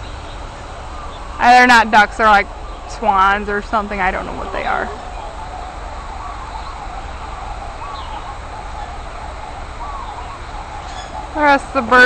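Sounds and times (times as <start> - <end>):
faint bird calls: 0.0 - 12.0
steady background hiss: 0.0 - 12.0.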